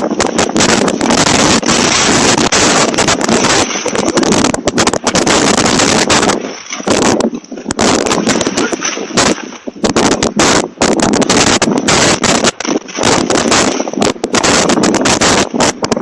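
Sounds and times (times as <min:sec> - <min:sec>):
plastic cover flapping: 0:00.0 - 0:16.0
wind buffeting microphone: 0:00.0 - 0:16.0.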